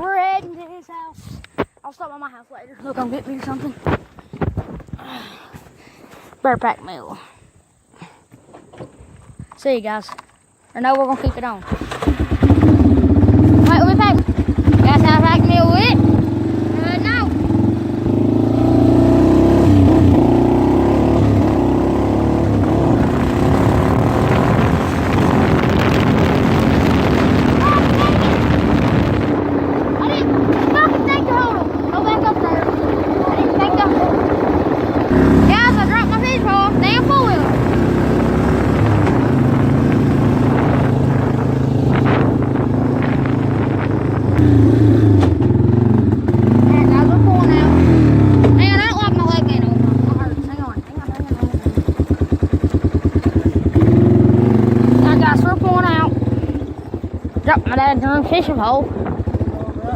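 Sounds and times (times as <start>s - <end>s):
atv engine running: 11.4s - 59.9s.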